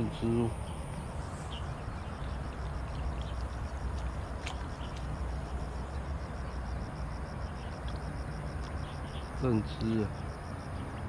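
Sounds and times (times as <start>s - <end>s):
wind rumble on microphone: 0.0s - 9.5s
insect chirping: 0.0s - 11.0s.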